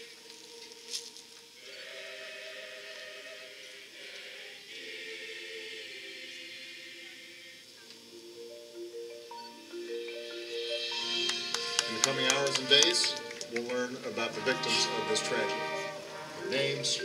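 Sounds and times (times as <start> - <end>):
choir-like held chords: 0.0 - 17.0.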